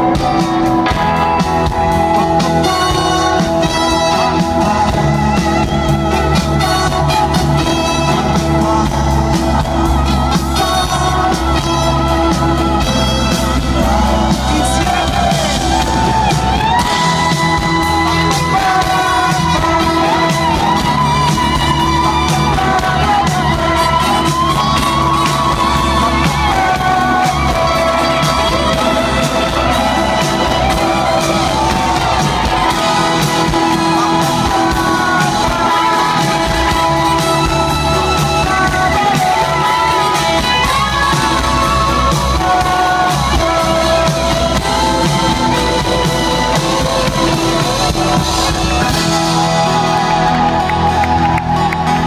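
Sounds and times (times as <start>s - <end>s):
live pop-rock band playing: 0.0s - 52.0s
voices singing: 0.0s - 52.0s.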